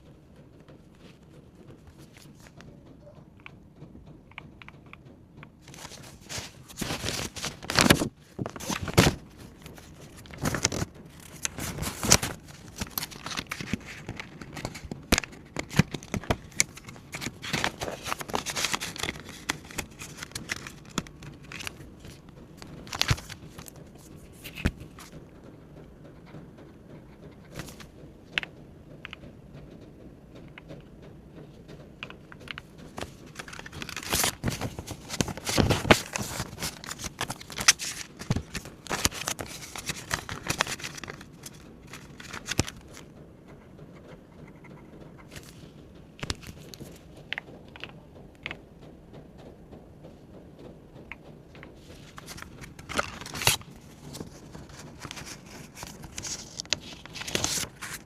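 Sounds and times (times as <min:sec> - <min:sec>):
banknotes crinkling and rustling: 0:00.0 - 0:03.4, 0:05.5 - 0:29.3, 0:30.5 - 0:48.6, 0:51.1 - 0:58.0
small taps and clicks: 0:00.0 - 0:58.0.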